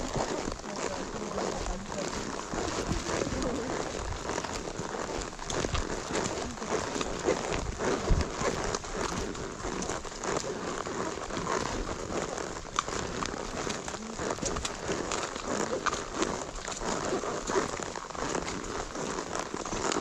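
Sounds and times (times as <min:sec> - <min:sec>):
horse hooves crunching on trail: 0:00.0 - 0:20.0.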